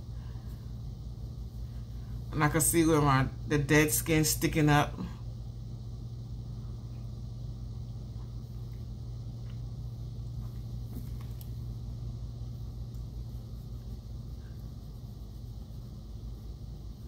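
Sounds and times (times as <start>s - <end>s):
low hum with rumble: 0.0s - 17.0s.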